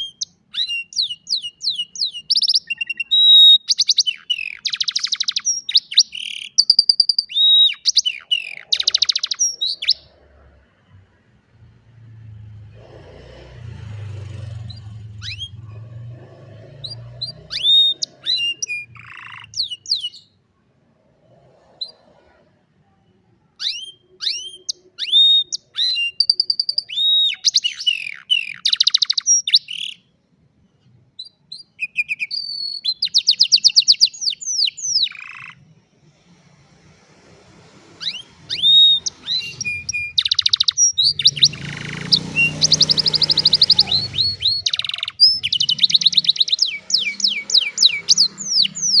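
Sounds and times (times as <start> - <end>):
canary singing: 0.0 - 20.4, 23.5 - 30.2, 31.2 - 49.0.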